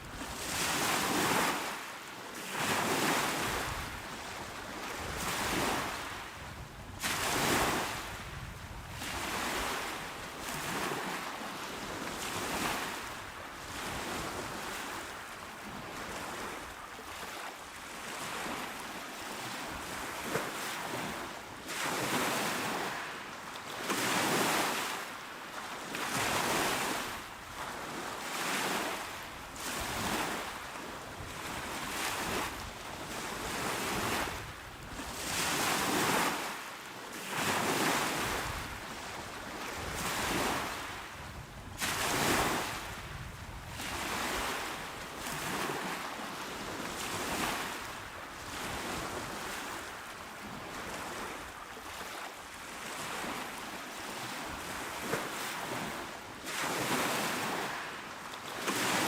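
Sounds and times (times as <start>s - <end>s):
small waves washing ashore: 0.0s - 59.0s.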